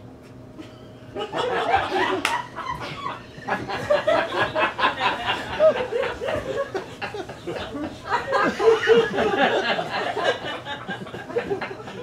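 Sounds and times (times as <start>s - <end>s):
audience laughing: 1.2s - 12.0s.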